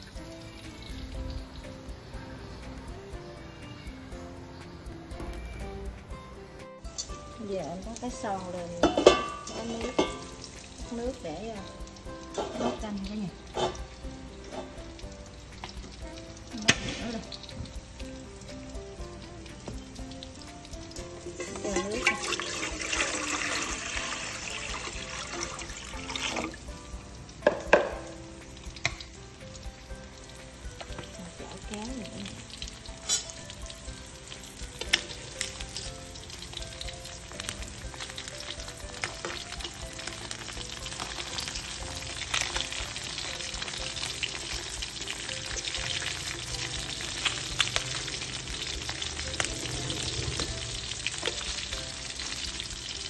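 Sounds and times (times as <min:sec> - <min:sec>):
fish sizzling in hot oil: 0:00.0 - 0:53.0.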